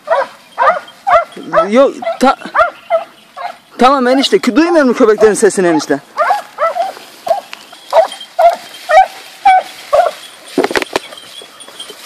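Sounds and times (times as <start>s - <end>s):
dogs barking in high yelps: 0.0s - 4.3s, 4.9s - 12.0s.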